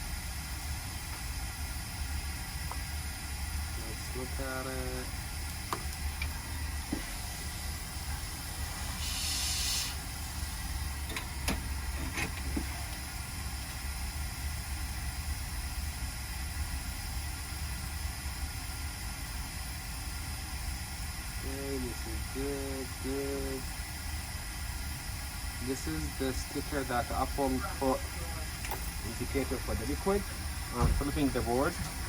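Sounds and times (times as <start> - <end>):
background hiss: 0.0 - 32.0.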